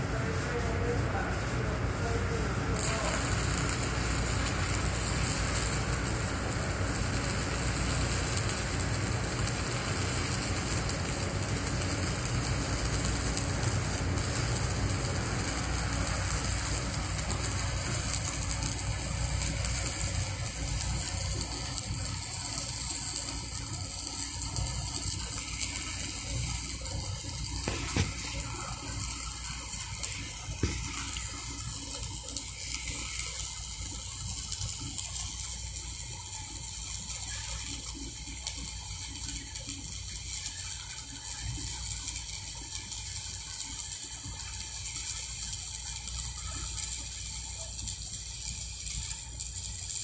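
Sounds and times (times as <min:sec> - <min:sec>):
welding arc crackling and hissing: 0:00.0 - 0:50.0.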